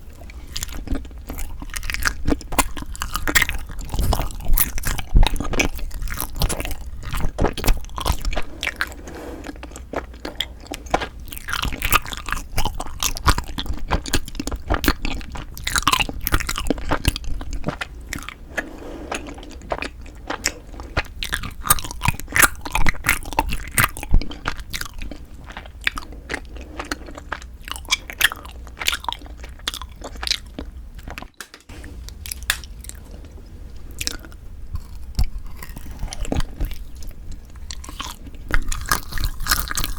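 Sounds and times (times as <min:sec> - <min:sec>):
chewing and biting food: 0:00.0 - 0:31.4, 0:32.2 - 0:39.9.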